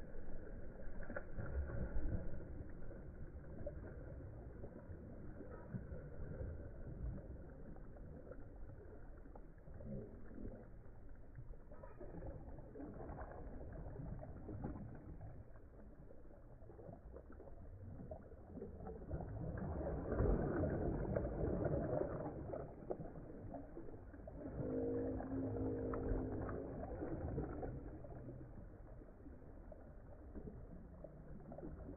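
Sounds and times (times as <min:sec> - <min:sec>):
small waves lapping: 0:00.0 - 0:31.9.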